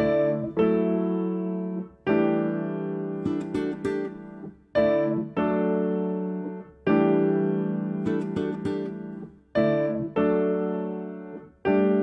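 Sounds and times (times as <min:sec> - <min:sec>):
instrumental music chords: 0:00.0 - 0:12.0.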